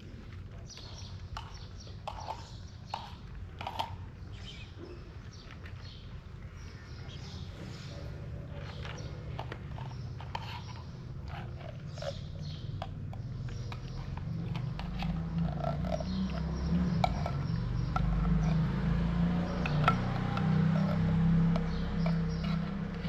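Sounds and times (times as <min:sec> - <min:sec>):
cat food clicks and scrapes: 0:00.1 - 0:04.2, 0:05.2 - 0:06.1, 0:07.6 - 0:23.0.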